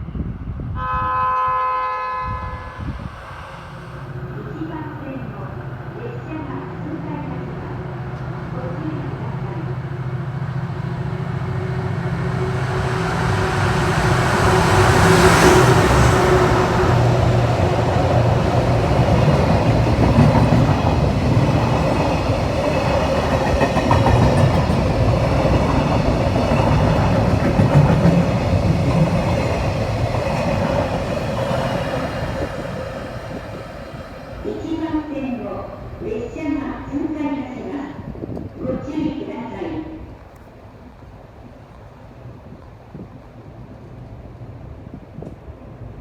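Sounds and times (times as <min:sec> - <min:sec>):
freight train passing: 0:00.0 - 0:46.0.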